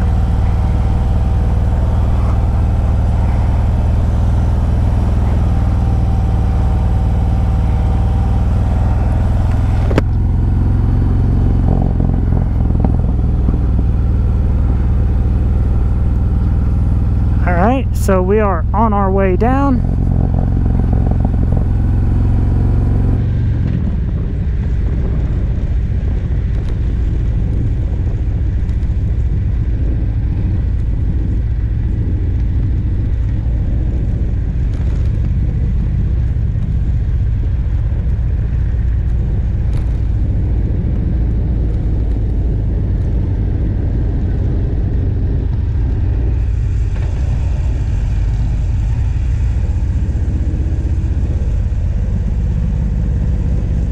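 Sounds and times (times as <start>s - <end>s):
motorcycle engine running: 0.0s - 53.9s
wind noise: 8.0s - 17.9s, 19.8s - 53.9s.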